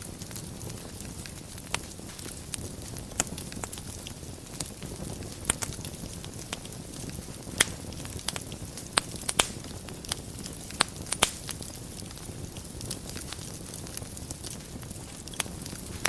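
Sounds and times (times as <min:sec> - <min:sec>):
fire burning in fireplace: 0:00.0 - 0:16.0
fire crackles and pops: 0:00.0 - 0:16.0.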